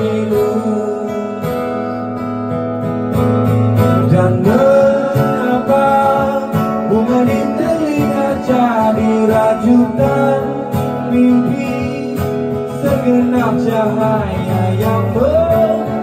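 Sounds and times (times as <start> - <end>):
man singing: 0.0 - 2.2, 3.7 - 16.0
acoustic guitar strumming: 0.0 - 16.0.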